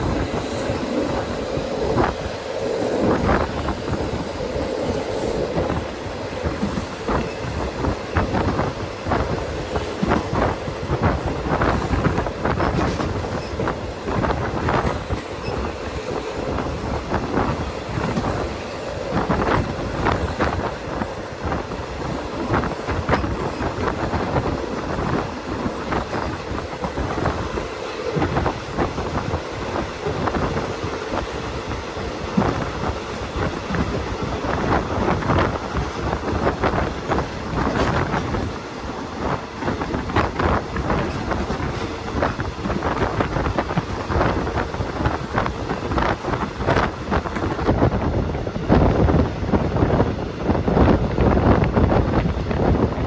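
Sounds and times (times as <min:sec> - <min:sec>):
wheels clacking over rail joints: 0:00.0 - 0:49.9
train rumble: 0:00.0 - 0:53.0.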